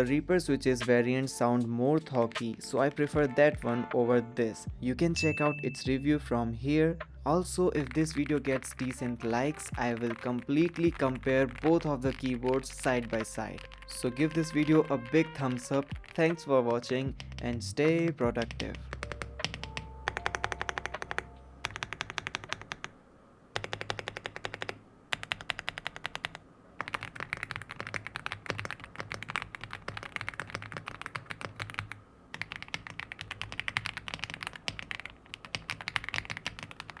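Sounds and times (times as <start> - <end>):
fast typing on mechanical keyboard: 2.0 - 3.1, 7.3 - 37.0.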